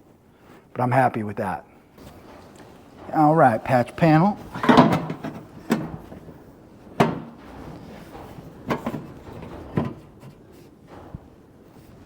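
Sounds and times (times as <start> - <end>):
sheet metal knocks and clatters: 2.0 - 12.0.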